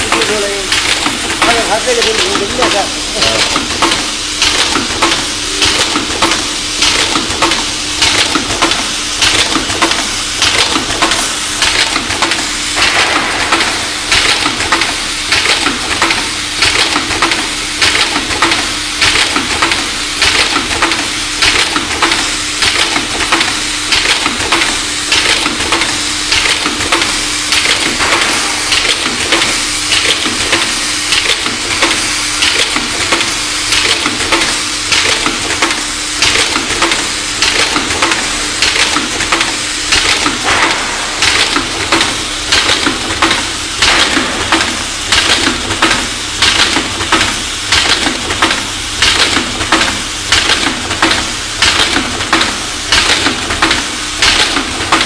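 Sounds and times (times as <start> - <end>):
assembly machine clattering: 0.0 - 55.0
steady machine hum: 0.0 - 55.0.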